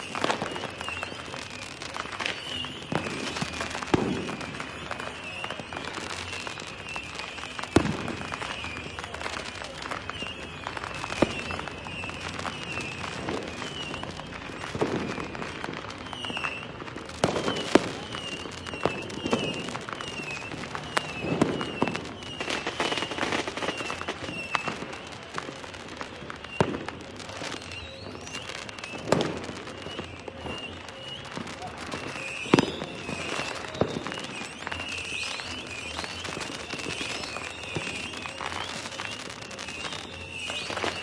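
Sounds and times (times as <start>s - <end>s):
fireworks popping and crackling: 0.0s - 41.0s
loud firework bangs: 0.0s - 41.0s.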